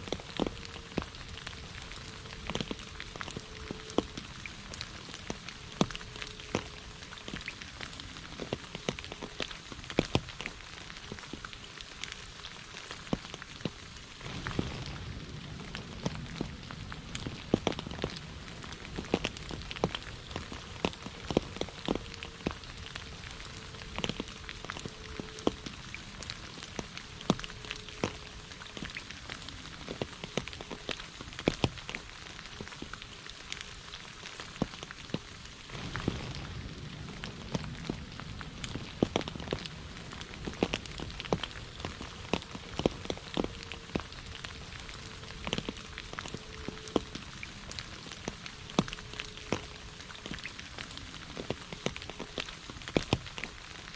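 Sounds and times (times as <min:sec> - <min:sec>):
heavy rain: 0:00.0 - 0:53.9
sharp raindrop hits: 0:00.0 - 0:53.9.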